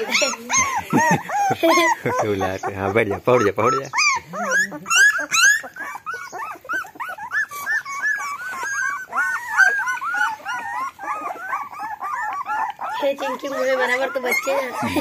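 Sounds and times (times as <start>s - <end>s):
puppies whimpering and squealing: 0.0s - 15.0s.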